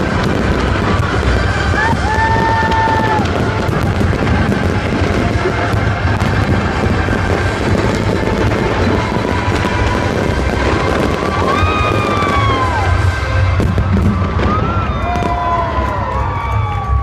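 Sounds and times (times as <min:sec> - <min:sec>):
fireworks crackling and popping: 0:00.0 - 0:17.0
loud music: 0:00.0 - 0:17.0
low rumble: 0:00.0 - 0:17.0.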